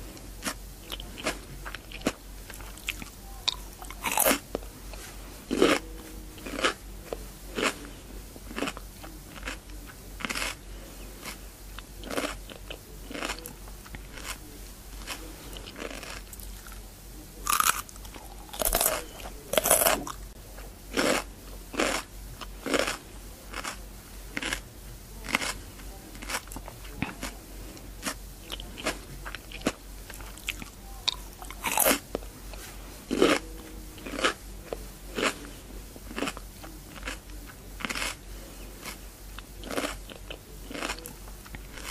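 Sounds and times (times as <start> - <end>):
person chewing crunchy cucumber: 0.0 - 16.8, 17.4 - 41.9.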